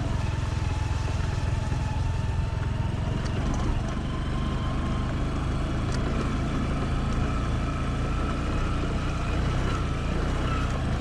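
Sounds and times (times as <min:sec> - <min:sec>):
road noise: 0:00.0 - 0:11.0
vehicle engine rumbling: 0:00.0 - 0:11.0.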